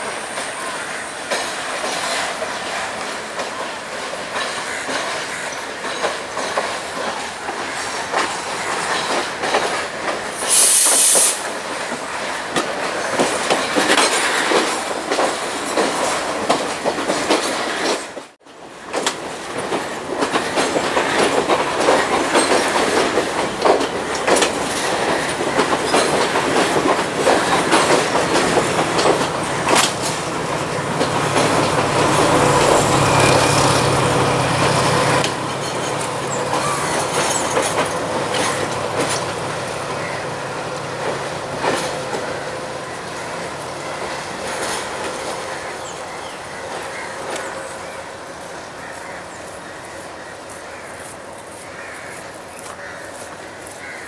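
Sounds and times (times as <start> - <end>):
train wheels clattering over rails: 0.0 - 54.0.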